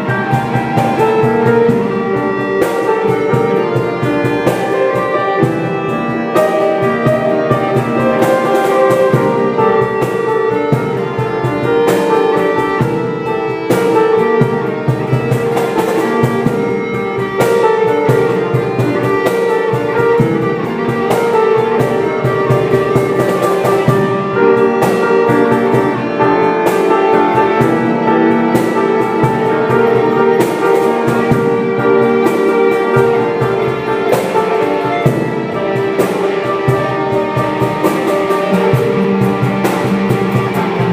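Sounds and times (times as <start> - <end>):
drum kit beat: 0.0 - 40.9
guitar playing: 0.0 - 40.9.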